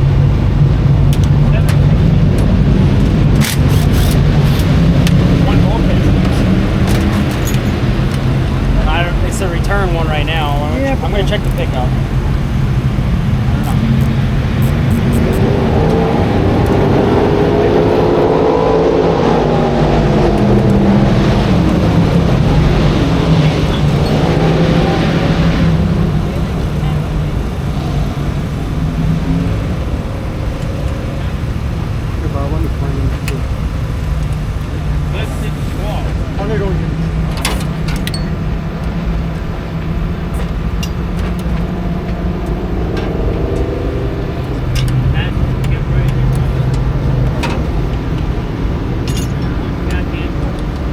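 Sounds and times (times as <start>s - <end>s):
race car engine running: 0.0s - 50.9s.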